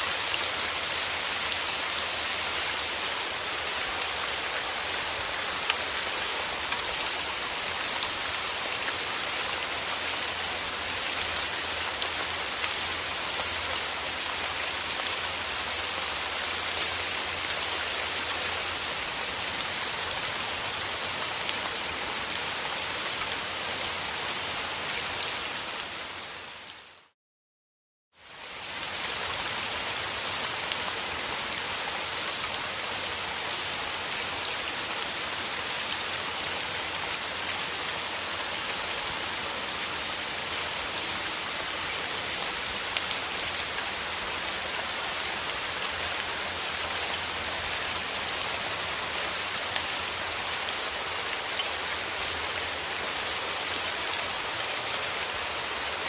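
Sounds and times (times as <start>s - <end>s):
steady rain: 0.0s - 27.2s, 28.2s - 56.0s.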